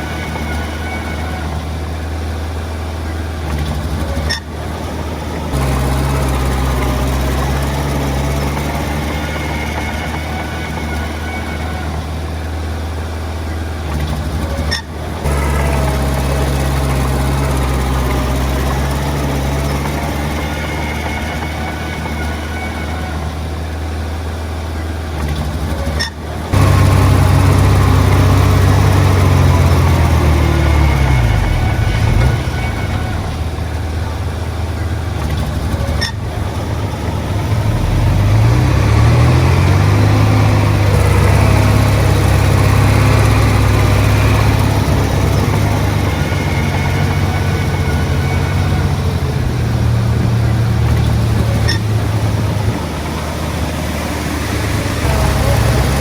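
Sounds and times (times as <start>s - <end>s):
diesel machinery engine droning: 0.0s - 56.0s.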